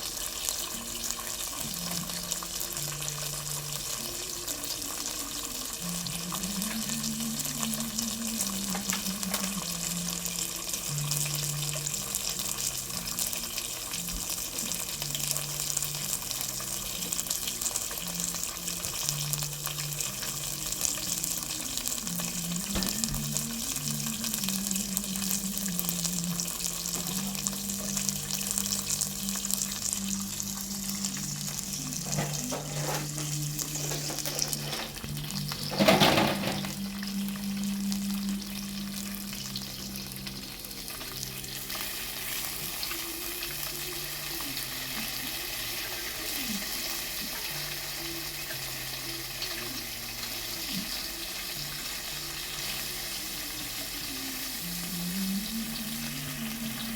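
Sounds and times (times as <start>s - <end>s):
food sizzling in a pan: 0.0s - 56.9s.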